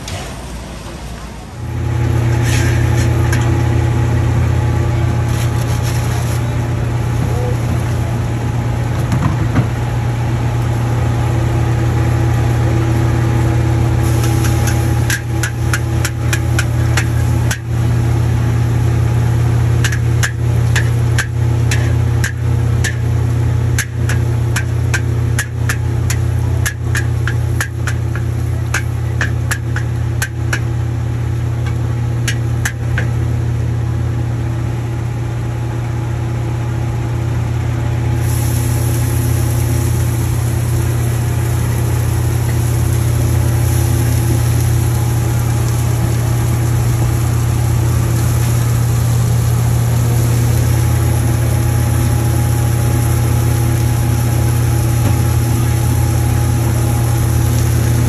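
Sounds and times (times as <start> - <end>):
wok stove roaring: 0.0 - 58.0.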